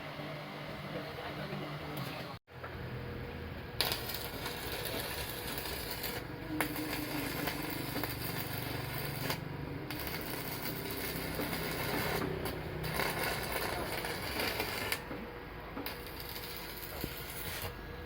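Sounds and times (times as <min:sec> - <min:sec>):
welding machine humming: 0:01.8 - 0:18.0.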